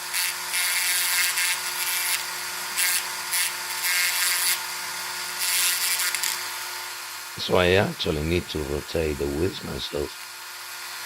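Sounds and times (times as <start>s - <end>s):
small electric power tool running: 0.0s - 11.0s.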